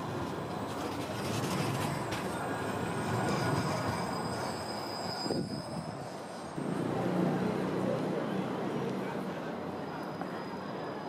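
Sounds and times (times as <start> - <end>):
tram wheel squeal: 0.0 - 6.8, 8.3 - 11.0
tram rumble: 0.0 - 11.0.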